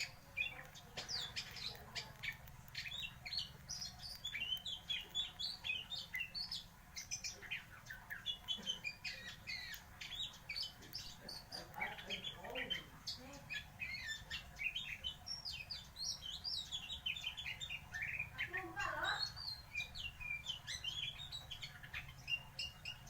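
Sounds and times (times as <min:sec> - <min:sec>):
songbird chirps and whistles: 0:00.0 - 0:23.0.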